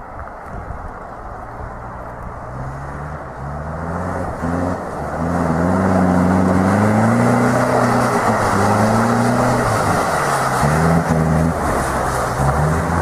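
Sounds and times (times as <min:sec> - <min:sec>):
road and wind noise: 0:00.0 - 0:13.0
truck engine revving: 0:02.4 - 0:13.0.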